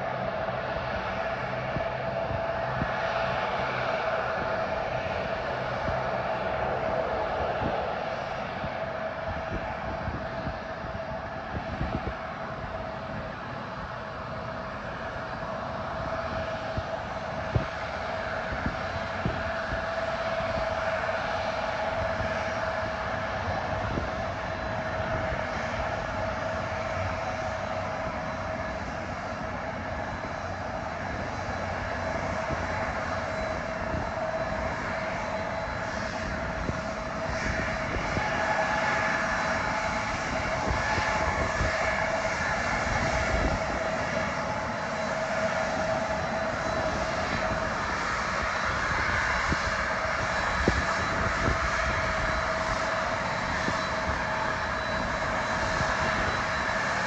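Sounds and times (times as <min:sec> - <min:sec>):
airliner engines whining: 0:00.0 - 0:57.0.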